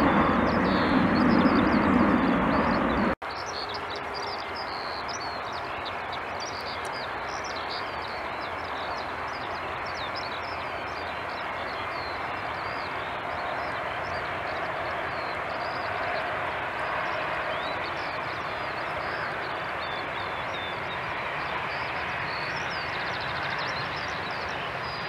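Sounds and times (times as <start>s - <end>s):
jet airliner engine roar: 0.0s - 25.0s
quieter jet engine noise: 0.0s - 25.0s.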